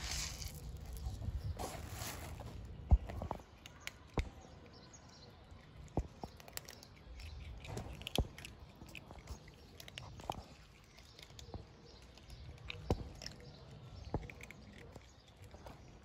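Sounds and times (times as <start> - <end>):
cat crunching dry kibble: 0.0 - 4.7, 5.3 - 16.0.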